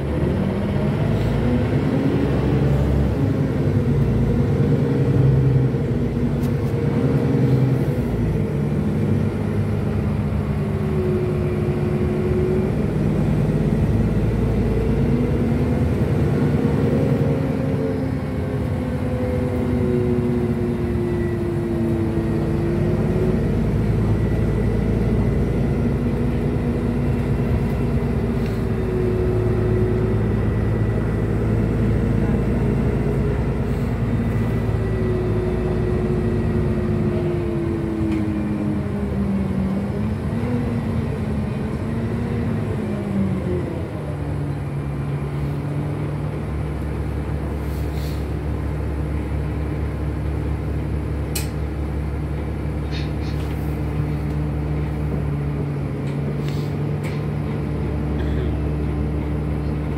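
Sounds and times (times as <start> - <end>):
bus engine running: 0.0 - 59.9
low rumble of road noise: 0.0 - 59.9.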